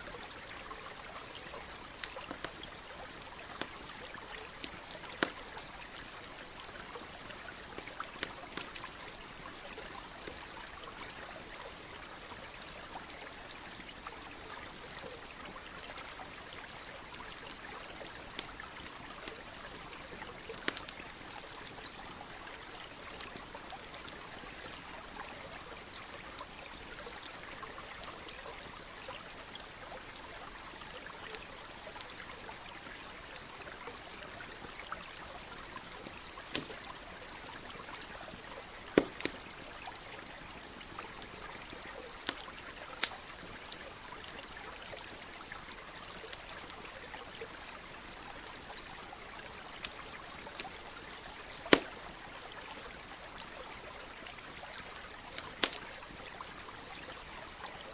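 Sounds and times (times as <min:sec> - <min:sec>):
campfire popping and crackling: 0:00.0 - 0:57.9
stream trickling: 0:00.0 - 0:57.9.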